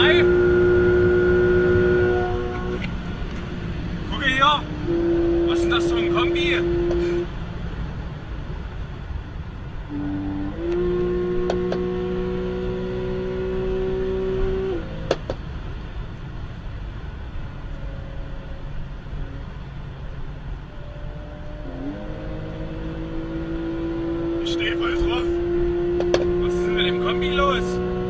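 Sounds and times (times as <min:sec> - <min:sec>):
car engine from inside cabin: 0:00.0 - 0:28.0
road and wind noise: 0:00.0 - 0:28.0.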